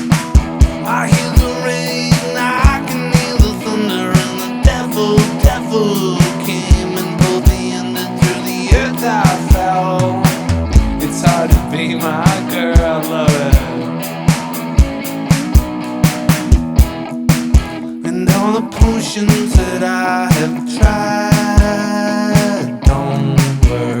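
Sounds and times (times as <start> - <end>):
electric guitars bending notes: 0.0 - 24.0
electronic drum kit beat: 0.0 - 24.0.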